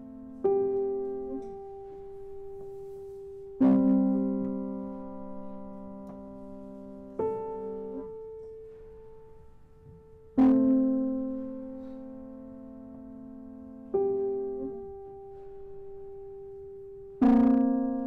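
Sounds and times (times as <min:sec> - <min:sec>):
grand piano chords: 0:00.0 - 0:18.0.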